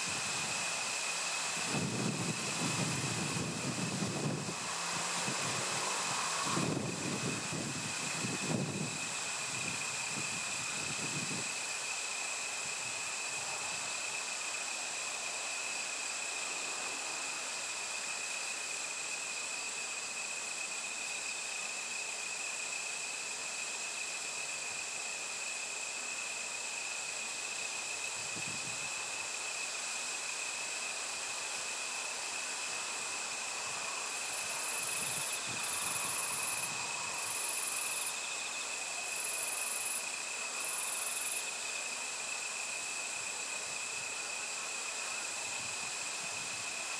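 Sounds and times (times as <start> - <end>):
crickets chirping: 0.0 - 46.9
higher-pitched insect bursts: 0.0 - 46.9.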